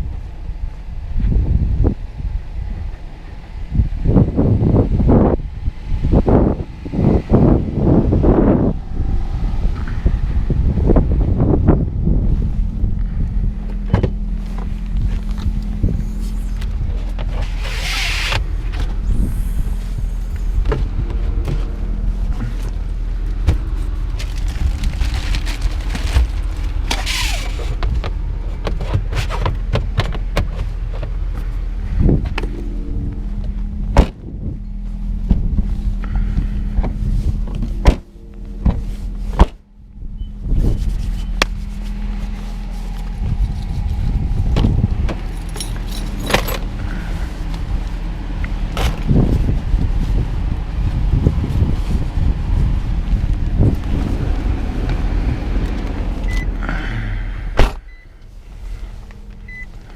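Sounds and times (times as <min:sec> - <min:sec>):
road and drivetrain rumble: 0:00.0 - 0:59.9.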